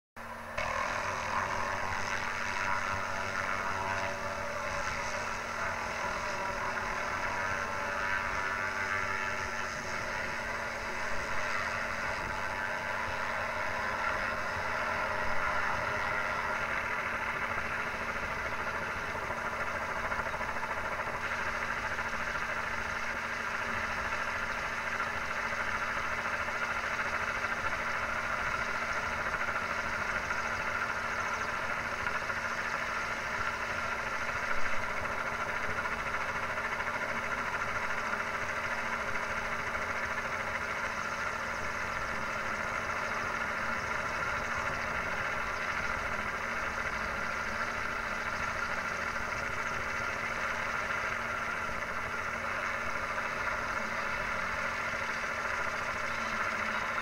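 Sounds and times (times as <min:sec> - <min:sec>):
helicopter and saw running: 0:00.2 - 0:57.0.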